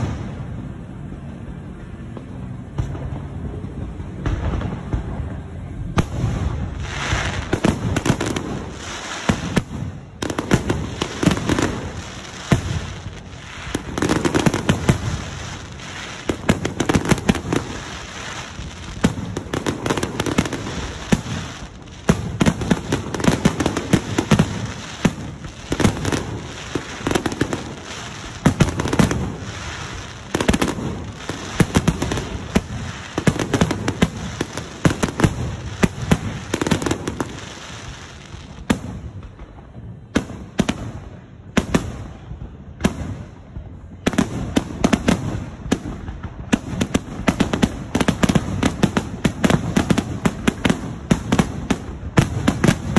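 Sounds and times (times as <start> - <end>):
firework booms: 0.0 - 0.6, 2.8 - 52.9
firework pops and crackling: 2.1 - 52.9.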